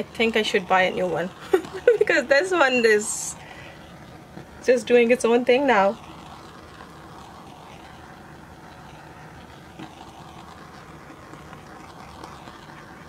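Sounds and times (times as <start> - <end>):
butane torch hissing: 0.0 - 13.0.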